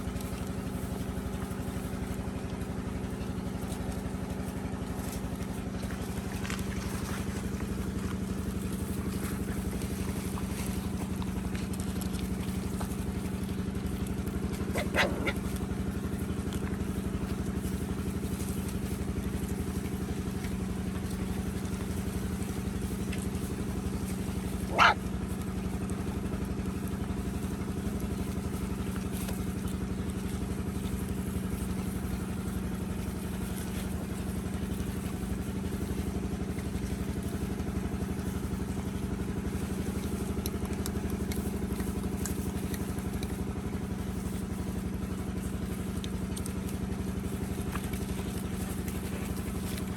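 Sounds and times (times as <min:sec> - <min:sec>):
steady engine-like drone: 0:00.0 - 0:49.9.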